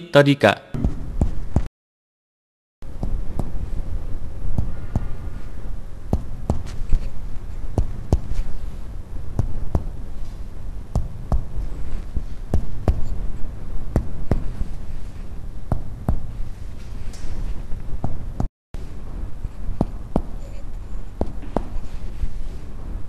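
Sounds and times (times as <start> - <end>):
steady low hum: 0.7 - 1.7, 2.8 - 23.0.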